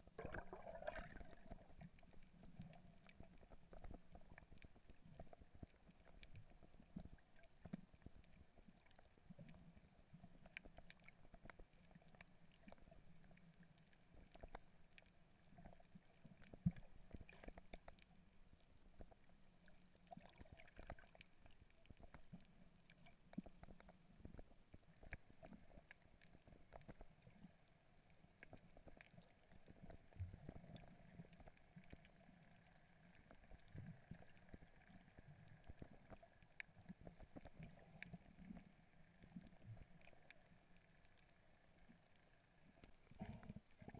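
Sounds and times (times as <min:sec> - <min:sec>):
faint underwater clicks and crackles: 0:00.0 - 0:43.9.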